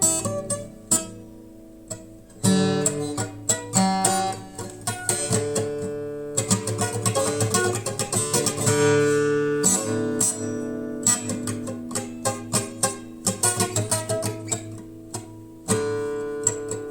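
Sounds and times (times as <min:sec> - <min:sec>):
acoustic guitar music: 0:00.0 - 0:16.9.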